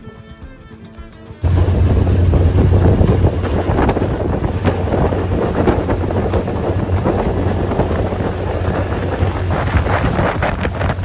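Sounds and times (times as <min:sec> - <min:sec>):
boat motor hum: 0:01.4 - 0:11.0
water rushing along hull: 0:01.4 - 0:11.0
wind buffeting microphone: 0:01.4 - 0:11.0.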